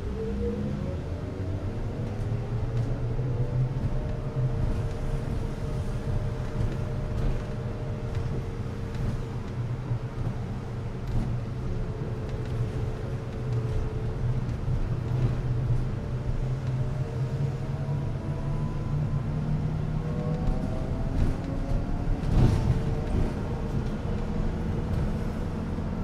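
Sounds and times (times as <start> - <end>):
bus interior hum: 0.0 - 26.0.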